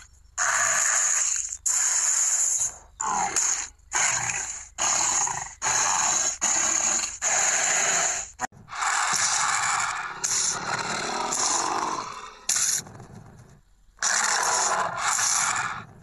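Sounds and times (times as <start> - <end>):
dinosaur snorts and growls: 0.4 - 16.0.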